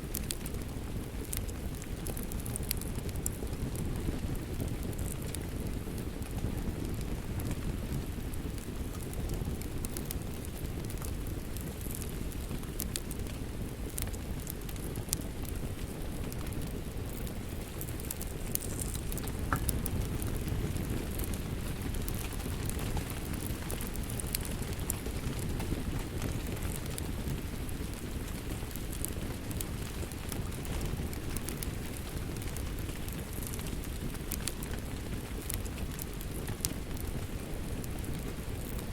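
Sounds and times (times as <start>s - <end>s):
steady rain rumble: 0.0s - 38.9s
wood fire crackling and popping: 0.0s - 38.9s.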